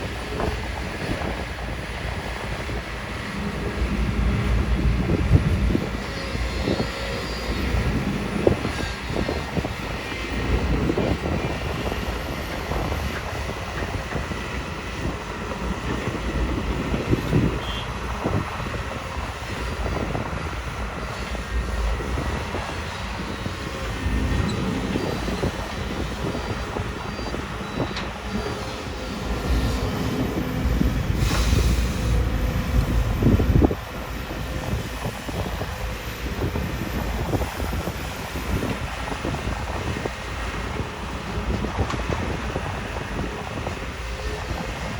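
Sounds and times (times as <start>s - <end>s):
excavator diesel engines: 0.0s - 44.9s.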